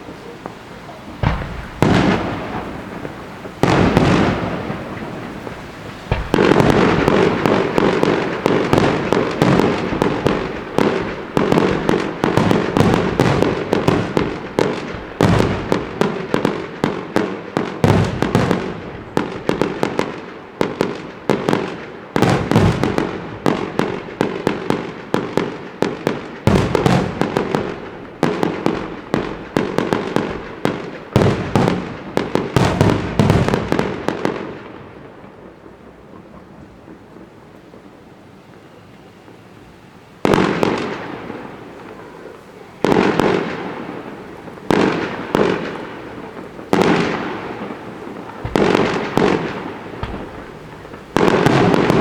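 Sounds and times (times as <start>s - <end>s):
fireworks cracking and banging: 0.0s - 52.0s.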